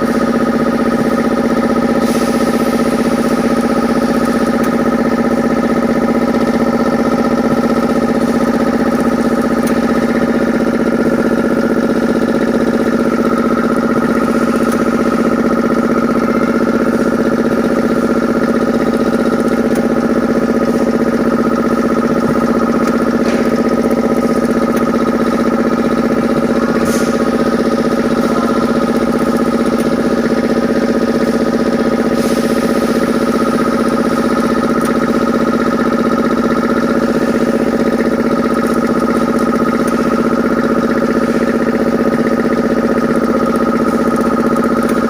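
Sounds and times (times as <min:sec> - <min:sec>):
packaging machine humming: 0:00.0 - 0:45.0.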